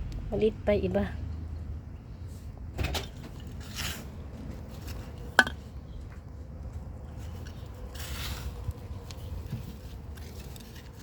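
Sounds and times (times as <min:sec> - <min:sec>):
rustling and scraping of soil: 0:02.2 - 0:11.0.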